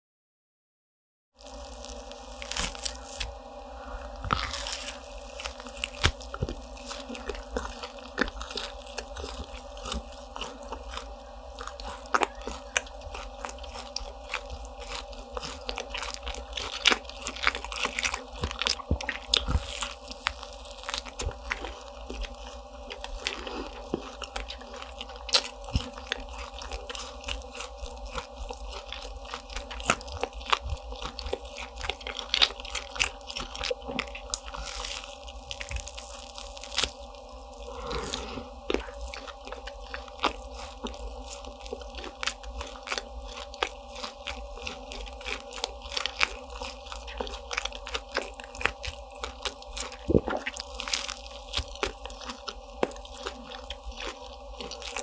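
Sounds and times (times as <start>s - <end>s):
crunchy pastry chewing: 1.4s - 55.0s.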